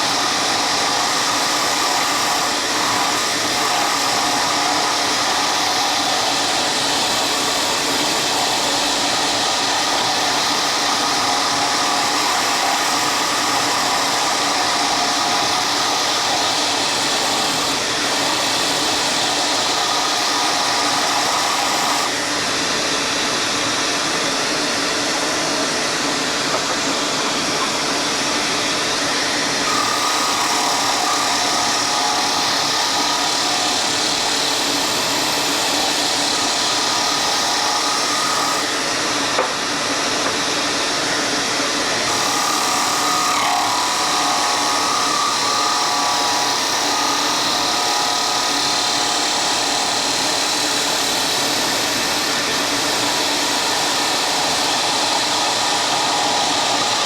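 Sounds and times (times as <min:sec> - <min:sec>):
woodworking power tool running: 0:00.0 - 0:57.0.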